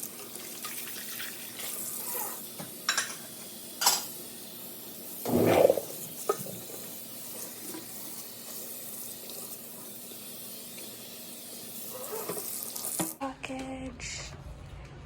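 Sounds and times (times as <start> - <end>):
water running: 0.0 - 13.2.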